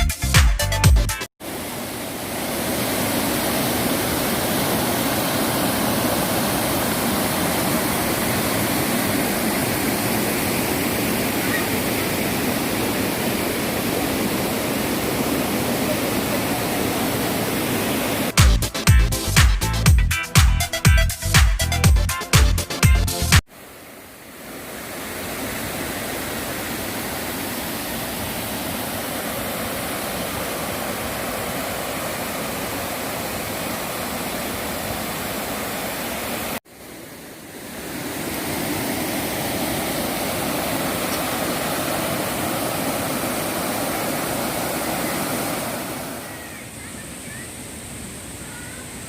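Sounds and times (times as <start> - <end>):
stream water rushing over rocks: 1.4 - 18.4, 23.5 - 46.8.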